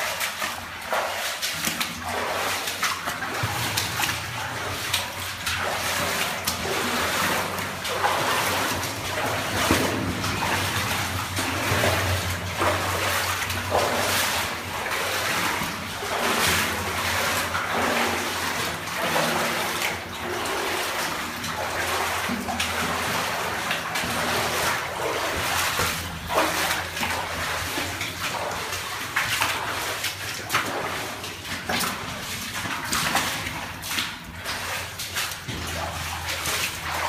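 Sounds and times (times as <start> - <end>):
footsteps splashing through water: 0.0 - 37.0
water trickling: 0.0 - 37.0.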